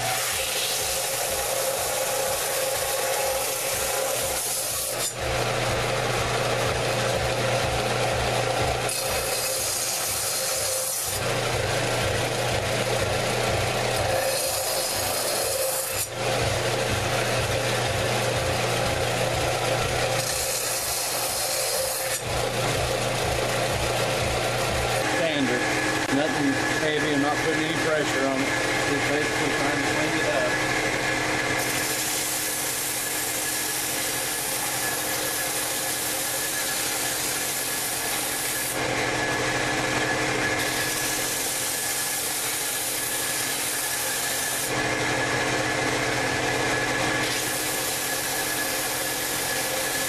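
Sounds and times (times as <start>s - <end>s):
power tool motor running: 0.0s - 50.0s.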